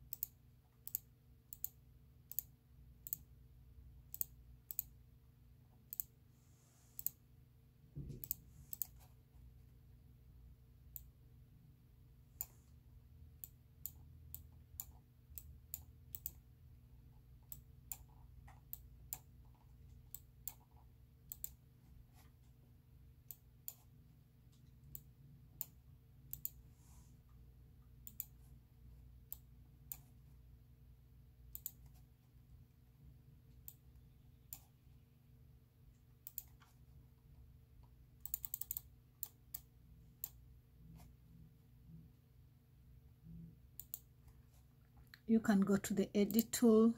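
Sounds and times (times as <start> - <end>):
low steady hum: 0.0 - 46.9.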